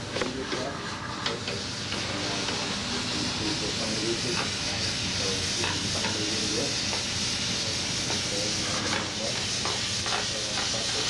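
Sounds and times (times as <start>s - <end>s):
steam cleaner hissing: 0.0s - 11.0s.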